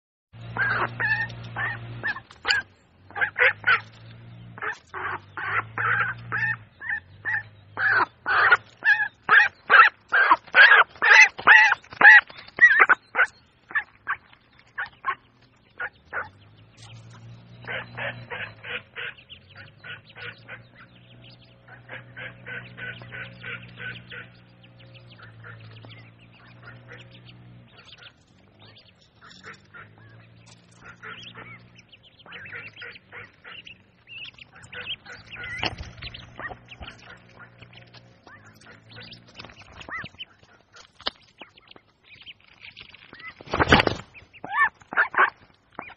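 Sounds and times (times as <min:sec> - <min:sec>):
ducks quacking: 0:00.4 - 0:45.9.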